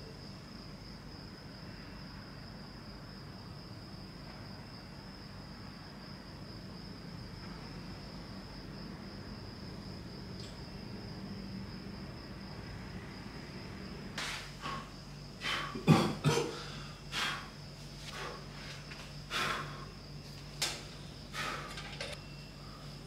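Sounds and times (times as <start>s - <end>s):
cricket trill: 0.0s - 23.0s.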